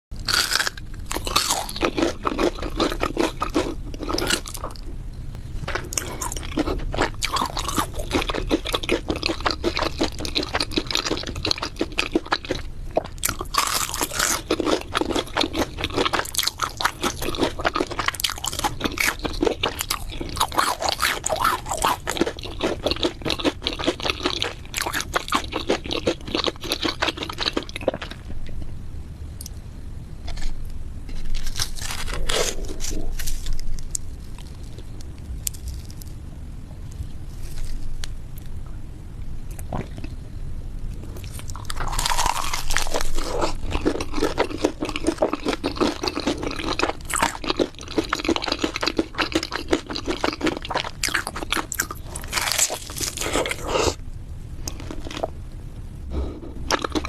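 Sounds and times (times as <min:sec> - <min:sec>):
crunchy food chewing: 0:00.2 - 0:04.9, 0:05.6 - 0:28.7, 0:30.2 - 0:36.2, 0:41.0 - 0:54.0, 0:54.6 - 0:55.4, 0:56.1 - 0:57.0.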